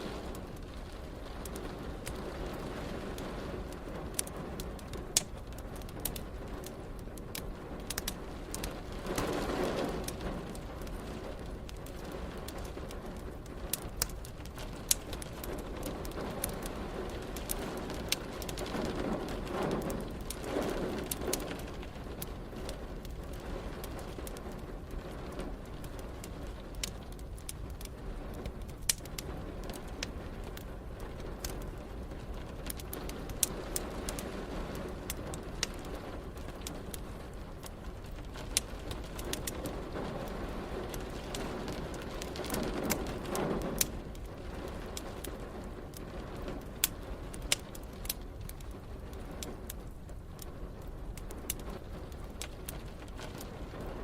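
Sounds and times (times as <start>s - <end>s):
fireplace crackling and popping: 0.0s - 54.0s
rain hissing: 0.0s - 54.0s.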